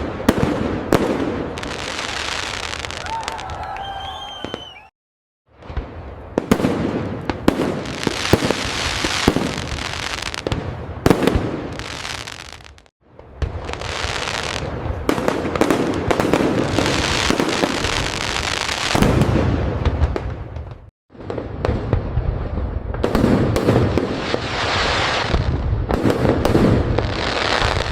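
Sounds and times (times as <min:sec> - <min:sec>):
fireworks crackling: 0:00.0 - 0:04.8, 0:05.6 - 0:27.9
fireworks aerial bursts bangs: 0:00.0 - 0:04.9, 0:05.5 - 0:27.9.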